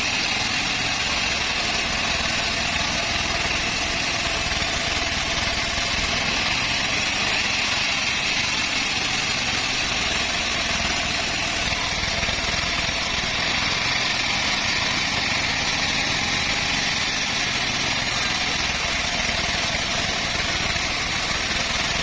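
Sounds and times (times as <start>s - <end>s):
band sawmill running: 0.0s - 22.0s.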